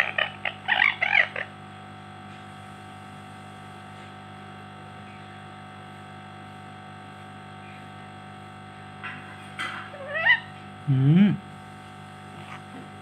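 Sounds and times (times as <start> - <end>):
background hum with constant tones: 0.0 - 13.0.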